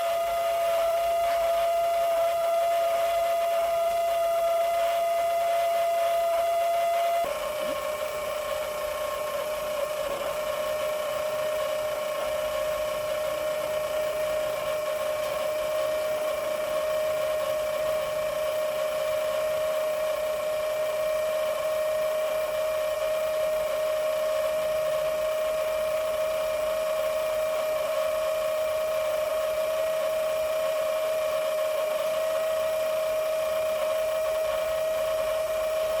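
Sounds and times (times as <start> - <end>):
small electric motor whining: 0.0 - 36.0.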